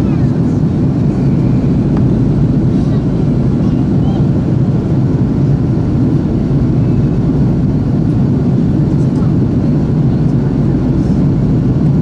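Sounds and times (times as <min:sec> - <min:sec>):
aircraft cabin engine roar: 0:00.0 - 0:12.0.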